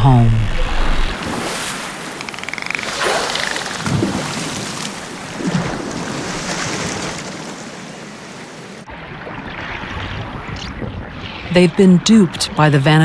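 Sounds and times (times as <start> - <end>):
waves washing: 0.0 - 13.0.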